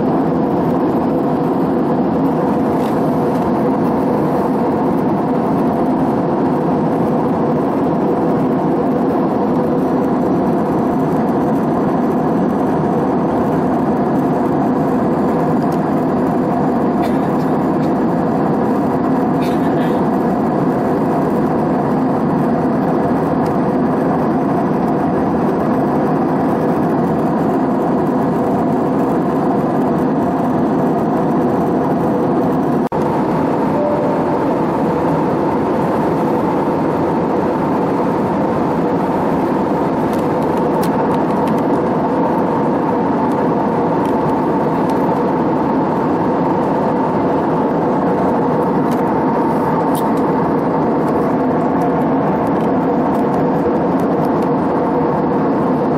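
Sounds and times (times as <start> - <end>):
airliner cabin drone: 0.0 - 55.9.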